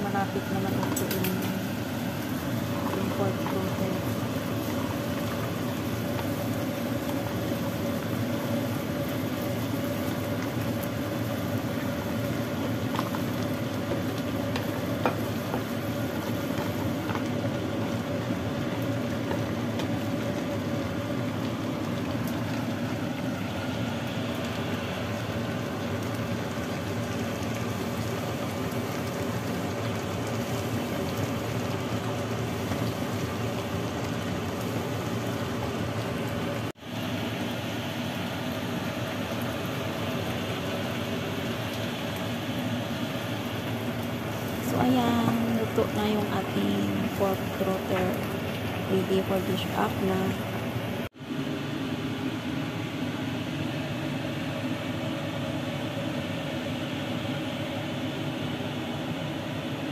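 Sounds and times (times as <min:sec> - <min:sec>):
stew bubbling in a pot: 0:00.0 - 0:59.9.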